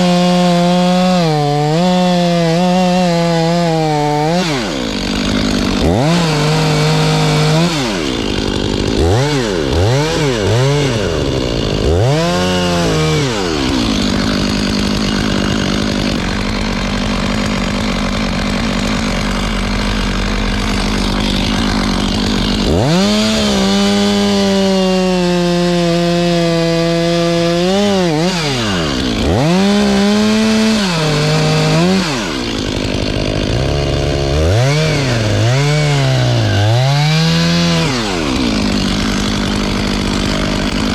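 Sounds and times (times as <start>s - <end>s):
chainsaw cutting wood: 0.0s - 40.9s
chainsaw revving: 0.0s - 40.9s.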